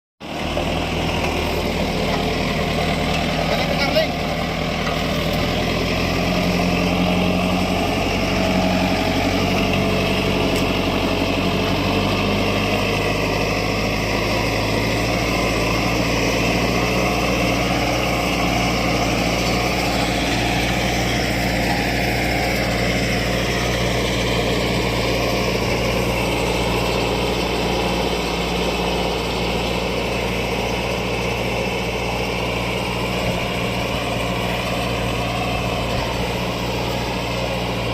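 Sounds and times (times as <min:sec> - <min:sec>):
tractor engine running: 0:00.2 - 0:37.9.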